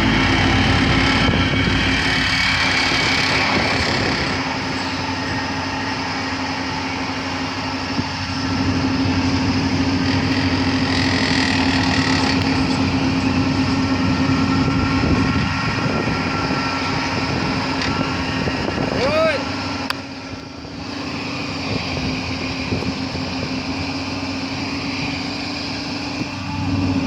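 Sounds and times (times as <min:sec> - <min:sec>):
excavator compactor droning: 0:00.0 - 0:27.0.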